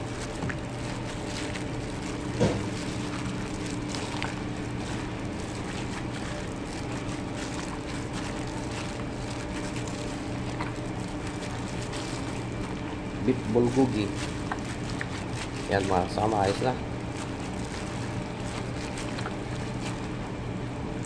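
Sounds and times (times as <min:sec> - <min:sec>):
low machine hum: 0:00.0 - 0:21.0
wet squishing of mixing food: 0:00.0 - 0:21.0.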